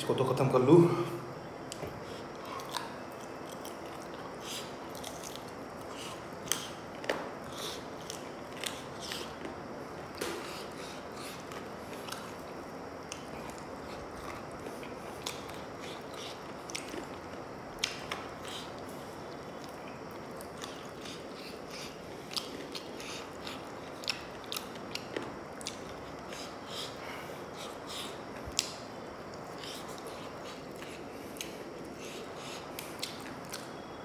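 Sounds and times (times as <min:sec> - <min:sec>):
steady low hiss: 0:00.0 - 0:34.0
person chewing and biting: 0:01.7 - 0:33.8.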